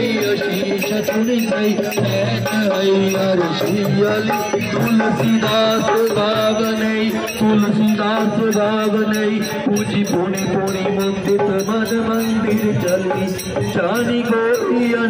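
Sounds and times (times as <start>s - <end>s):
men singing into microphones: 0.0s - 15.0s
percussion beat: 0.0s - 15.0s.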